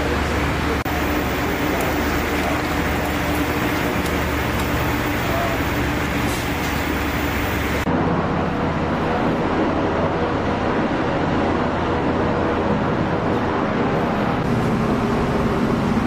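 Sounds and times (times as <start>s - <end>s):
ship machinery roar: 0.0s - 16.0s.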